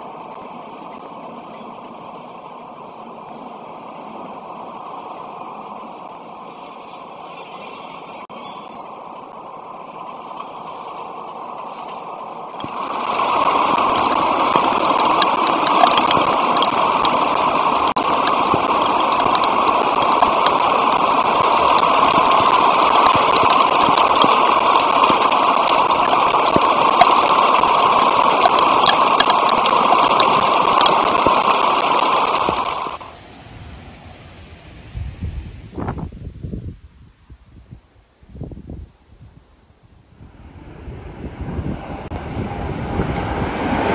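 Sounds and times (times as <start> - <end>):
heavy rain hissing: 0.0 - 43.9.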